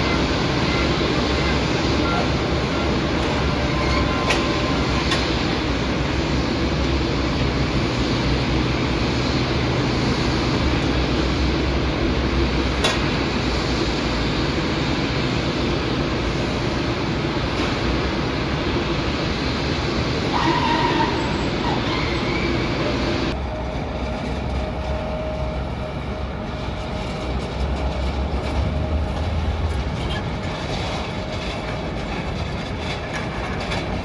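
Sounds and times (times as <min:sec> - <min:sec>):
airport apron rumble and hiss: 0:00.0 - 0:34.0.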